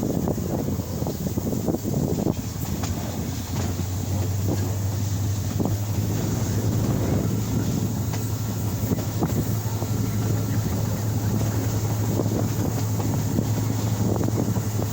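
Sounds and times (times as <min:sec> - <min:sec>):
engine humming: 0:00.0 - 0:14.9
wind buffeting microphone: 0:00.0 - 0:14.9.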